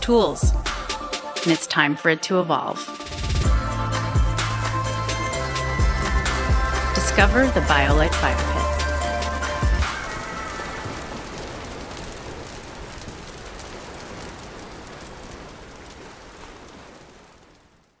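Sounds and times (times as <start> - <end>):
wood fire crackling: 3.1 - 18.0.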